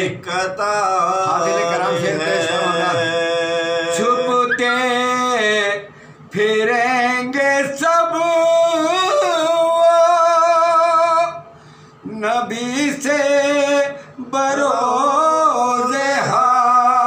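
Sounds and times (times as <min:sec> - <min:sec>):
men singing unaccompanied: 0:00.0 - 0:11.4, 0:12.1 - 0:17.0.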